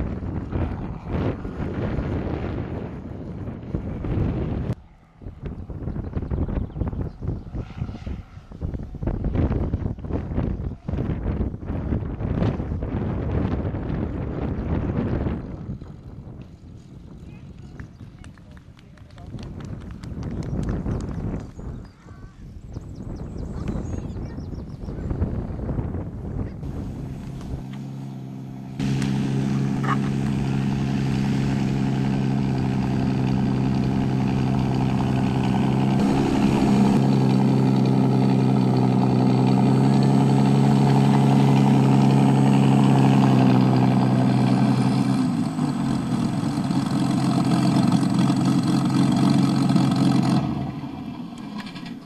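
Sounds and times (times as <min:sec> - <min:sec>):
engine sound through speaker: 0:00.0 - 0:22.0, 0:23.3 - 0:52.0.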